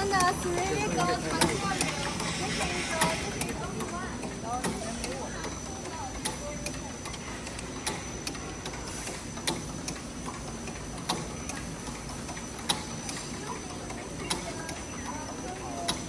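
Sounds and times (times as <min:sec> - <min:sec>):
factory machinery clicking: 0:00.0 - 0:16.0
steady machine hum: 0:00.0 - 0:16.0.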